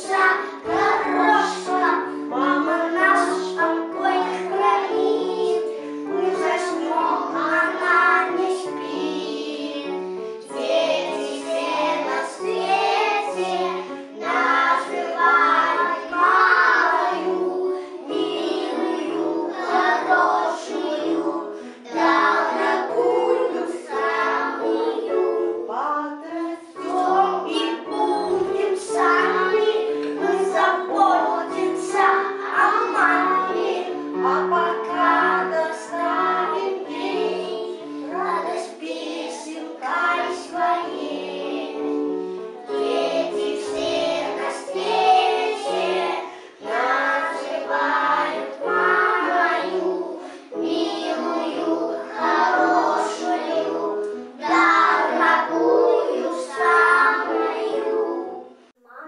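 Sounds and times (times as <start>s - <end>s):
children singing in unison: 0.0s - 59.0s.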